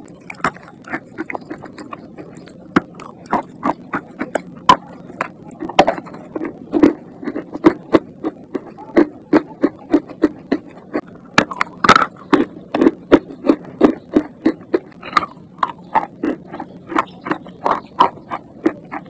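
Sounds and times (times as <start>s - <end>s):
chalk being chewed crunching: 0.0s - 19.0s.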